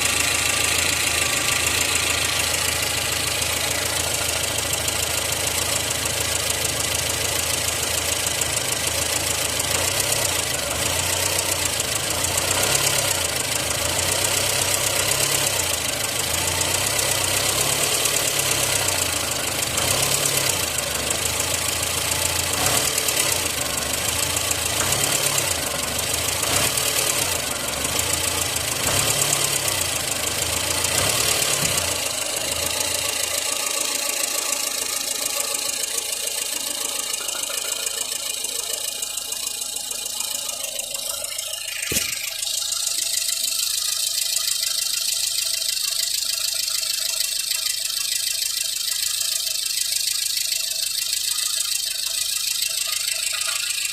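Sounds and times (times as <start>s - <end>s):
car engine revving: 0.0s - 44.8s
engine knocking noise: 0.0s - 53.9s.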